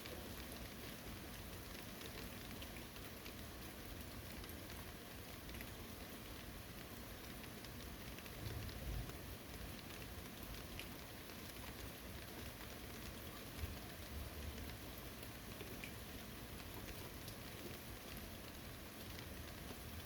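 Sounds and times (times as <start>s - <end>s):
rain falling on a forest: 0.0s - 20.0s
small raindrop ticks: 0.0s - 20.0s.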